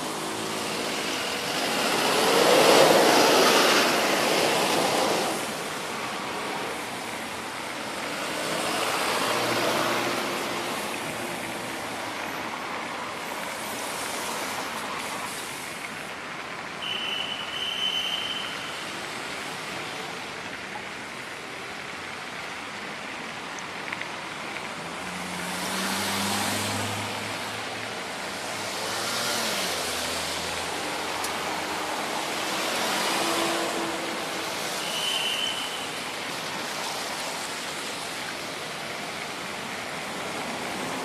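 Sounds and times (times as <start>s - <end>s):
car tyres hissing on wet road: 0.0s - 20.4s, 24.8s - 41.0s
steady rain: 0.0s - 41.0s.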